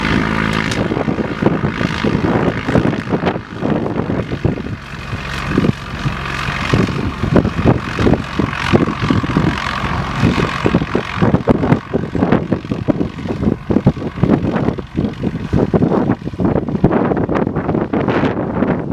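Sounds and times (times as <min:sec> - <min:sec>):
propeller aircraft engine running: 0:00.0 - 0:18.9
wind buffeting microphone: 0:00.0 - 0:18.9.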